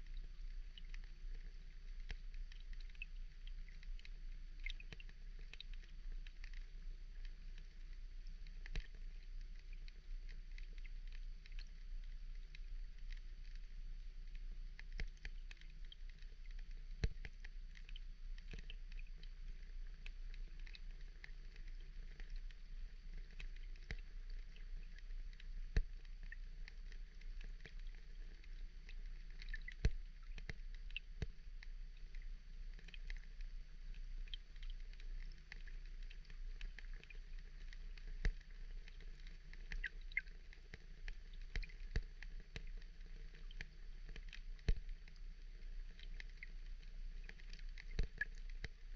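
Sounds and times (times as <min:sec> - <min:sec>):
faint crackling rain patter: 0:00.0 - 0:48.9.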